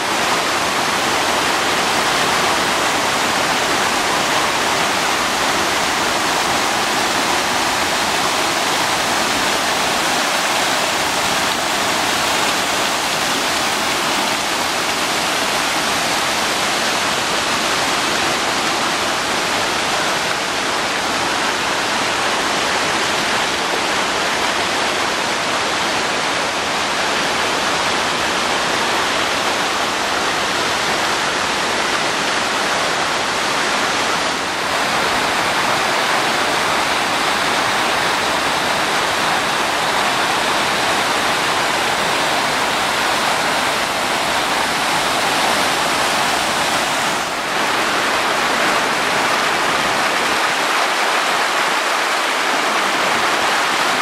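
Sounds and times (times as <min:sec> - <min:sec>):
creek rushing over rocks: 0:00.0 - 0:54.0.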